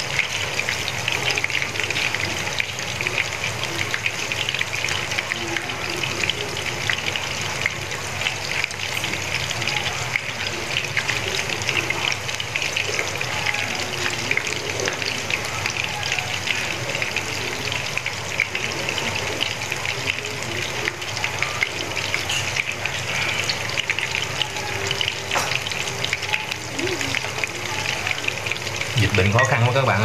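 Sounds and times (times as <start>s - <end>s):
fritters sizzling in oil: 0.0s - 30.0s.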